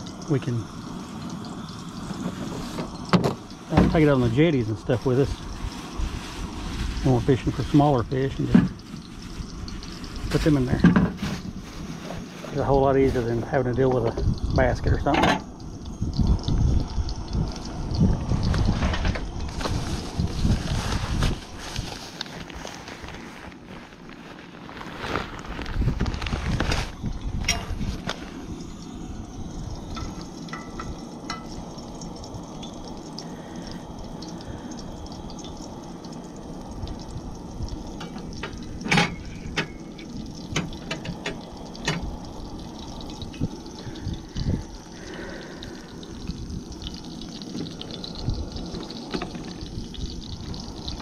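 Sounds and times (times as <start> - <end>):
fish sizzling in hot oil: 0.0 - 51.0.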